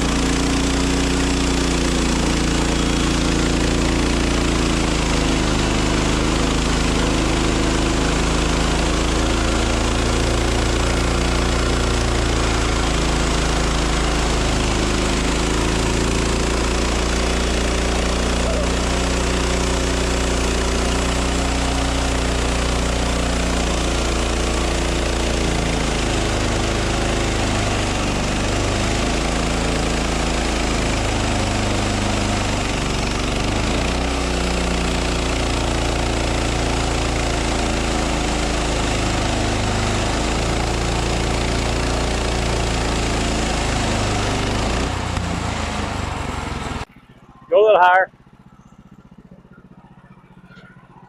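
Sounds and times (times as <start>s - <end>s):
sawmill engine running: 0.0s - 51.0s.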